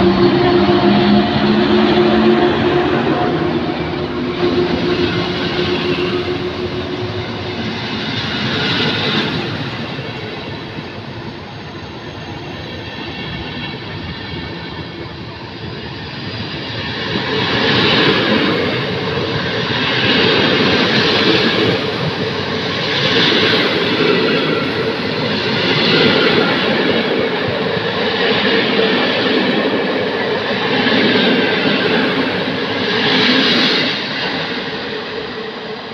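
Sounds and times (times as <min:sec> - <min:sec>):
train coaches rumbling on rails: 0:00.0 - 0:35.9.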